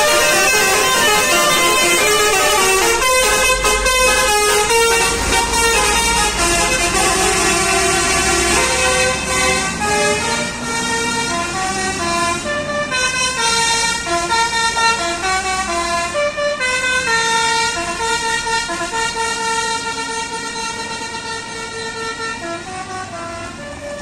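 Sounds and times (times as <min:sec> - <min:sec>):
bus engine rumble: 0:00.0 - 0:24.0
multi-tone air horn tune: 0:00.0 - 0:24.0.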